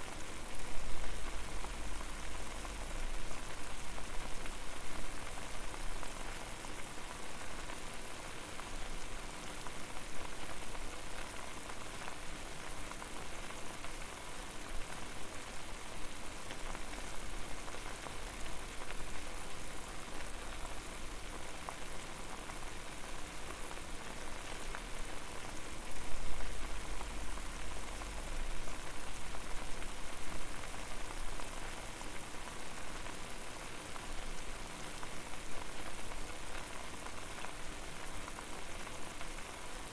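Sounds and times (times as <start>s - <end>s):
water boiling in a pot: 0.0s - 39.9s.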